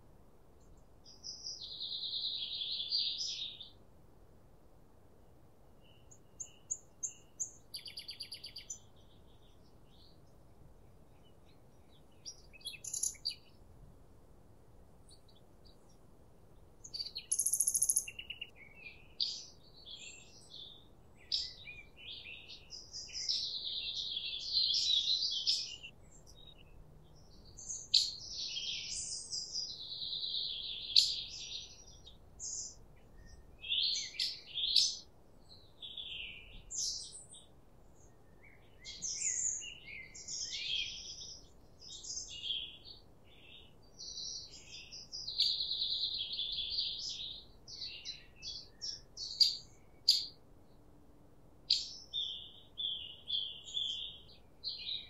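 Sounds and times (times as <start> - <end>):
songbirds singing: 0.6 - 3.8, 5.8 - 13.9, 14.8 - 55.0.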